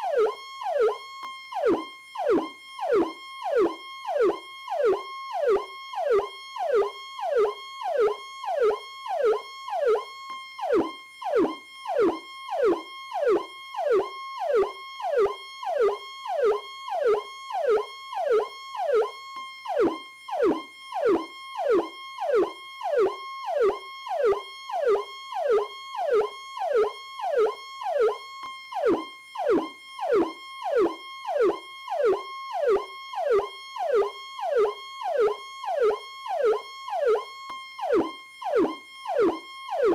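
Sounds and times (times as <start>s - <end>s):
electronic siren cycling rapidly: 0.0s - 39.9s.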